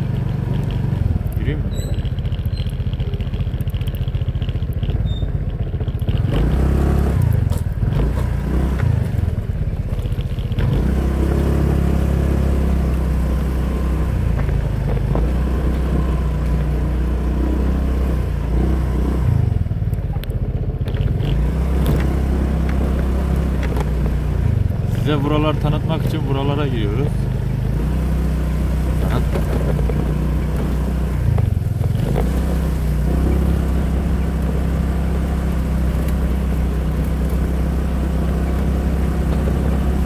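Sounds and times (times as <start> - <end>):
scooter engine running: 0.0 - 40.0.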